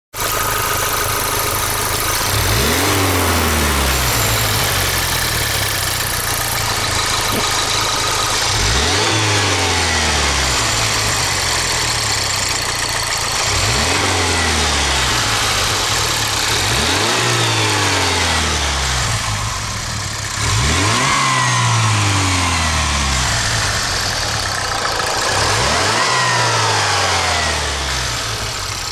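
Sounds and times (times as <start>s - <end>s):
engine cracking noise: 0.2s - 28.9s
engine revving: 0.2s - 28.9s.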